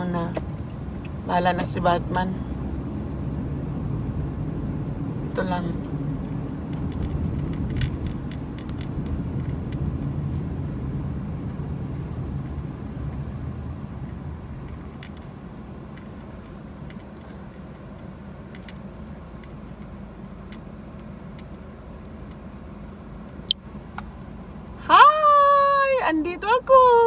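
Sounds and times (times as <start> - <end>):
car road noise rumble: 0.0 - 27.0
rain ticking on car: 0.0 - 27.0.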